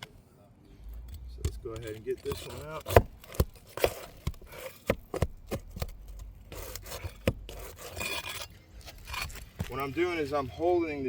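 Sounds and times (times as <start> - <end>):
pry tool scraping: 0.8 - 10.7.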